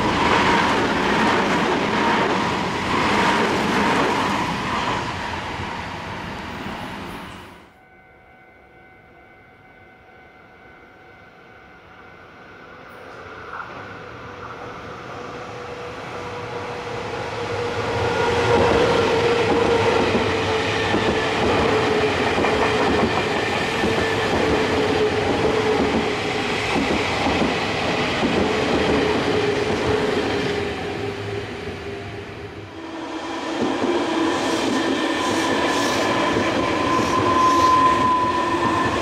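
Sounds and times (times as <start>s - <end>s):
electric train passing: 0.0s - 39.0s
train whine: 0.0s - 39.0s.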